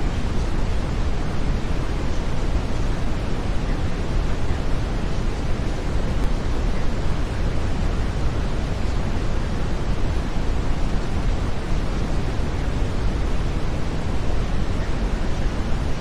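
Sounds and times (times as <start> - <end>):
brown noise: 0.0 - 16.0.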